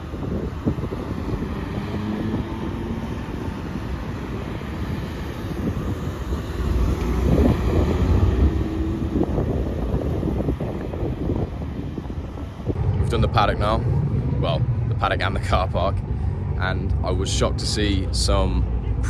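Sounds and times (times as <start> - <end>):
faint engine drone: 0.0 - 19.0
wind buffeting microphone: 0.0 - 19.0.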